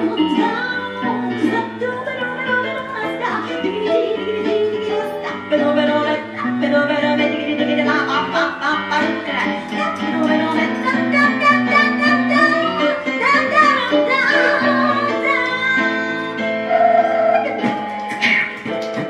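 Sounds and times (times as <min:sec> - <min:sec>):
woman singing into microphone: 0:00.0 - 0:17.9
instrumental accompaniment: 0:00.0 - 0:19.0.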